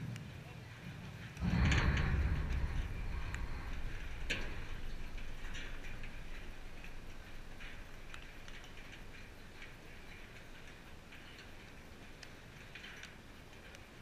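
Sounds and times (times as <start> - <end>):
low steady rumble: 0.2 - 14.0.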